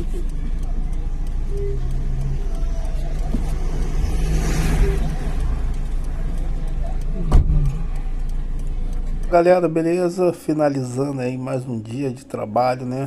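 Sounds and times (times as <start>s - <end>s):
car engine idling: 0.0s - 11.1s
passing vehicle noise: 0.0s - 11.1s.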